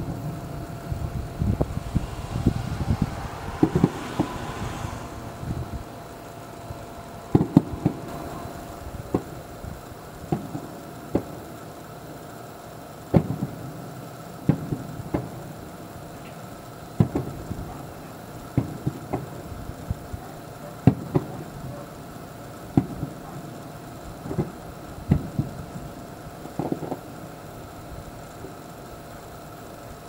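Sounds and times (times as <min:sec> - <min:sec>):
distant fireworks booming: 0:00.0 - 0:29.7.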